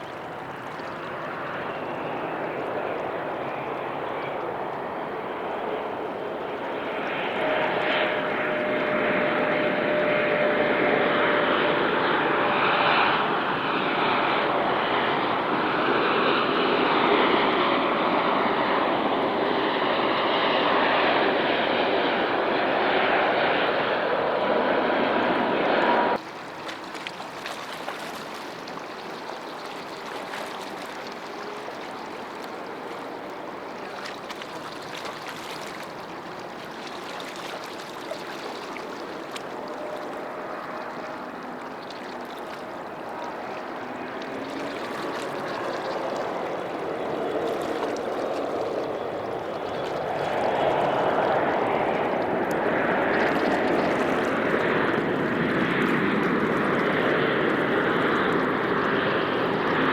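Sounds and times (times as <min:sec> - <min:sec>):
distant jet engine: 0:00.0 - 0:59.9.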